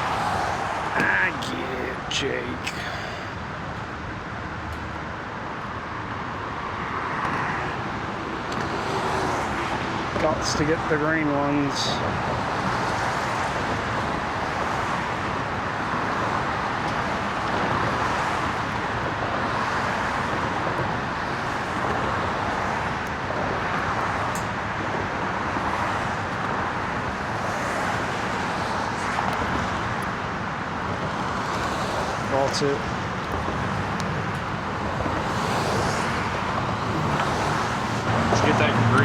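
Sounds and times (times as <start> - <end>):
road traffic: 0.0 - 39.0.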